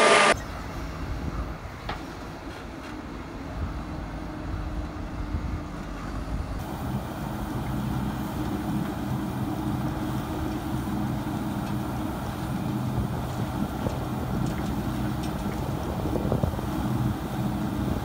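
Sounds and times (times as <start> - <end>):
machine engine humming: 0.0 - 0.8, 3.1 - 18.0
backhoe loader rumbling: 0.0 - 18.0.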